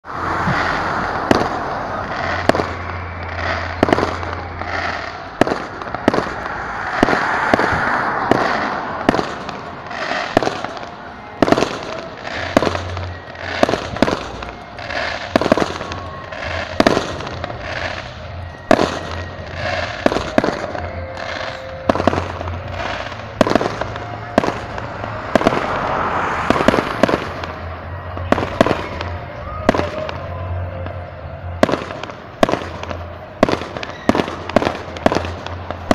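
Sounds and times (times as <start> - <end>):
steady background din: 0.0 - 35.9
firework rockets bursting with bangs: 0.2 - 35.9.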